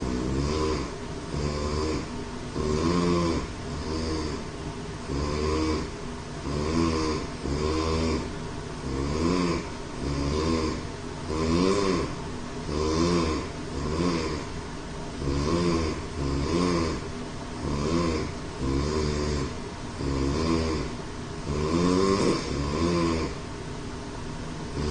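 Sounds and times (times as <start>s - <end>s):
man snoring loudly: 0.0s - 14.6s, 15.2s - 23.4s.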